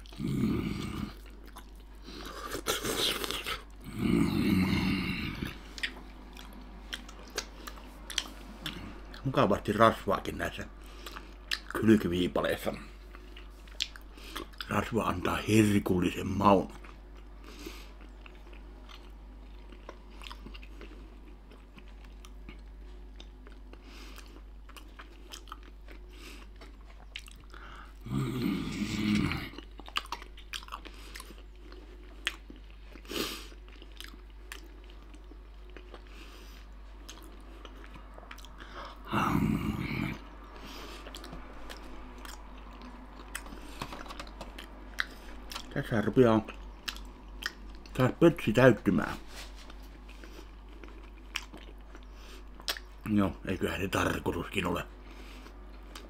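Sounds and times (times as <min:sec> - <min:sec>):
person chewing meat: 0:00.0 - 0:15.0, 0:16.6 - 0:53.1, 0:55.0 - 0:56.0.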